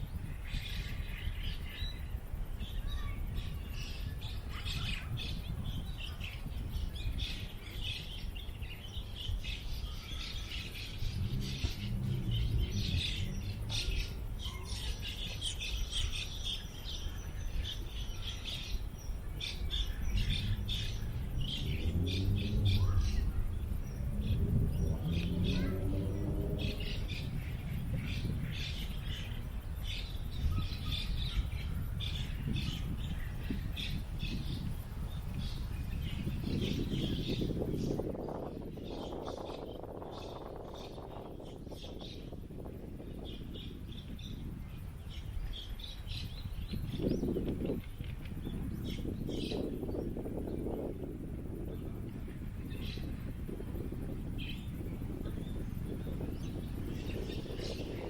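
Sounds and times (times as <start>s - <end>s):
distant voices: 0.0s - 58.0s
small birds chirping: 0.0s - 58.0s
wind rumble on microphone: 0.0s - 58.0s.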